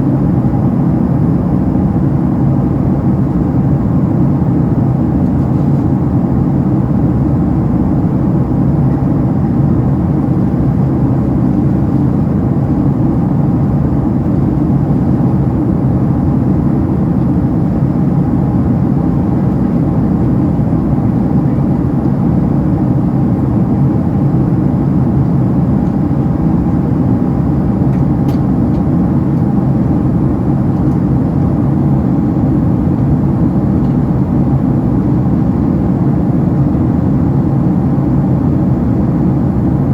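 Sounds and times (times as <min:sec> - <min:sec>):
faint steady hum: 0:00.0 - 0:39.9
jet cabin engine rumble: 0:00.0 - 0:39.9.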